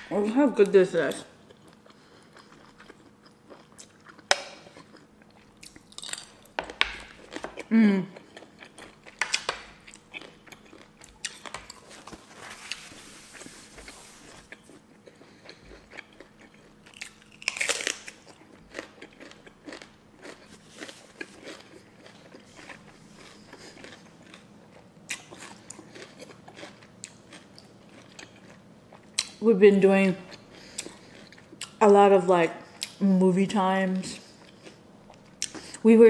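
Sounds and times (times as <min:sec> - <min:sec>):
crunchy chewing with clicks: 0:00.6 - 0:12.8, 0:13.4 - 0:29.4, 0:30.2 - 0:31.8, 0:34.0 - 0:35.8.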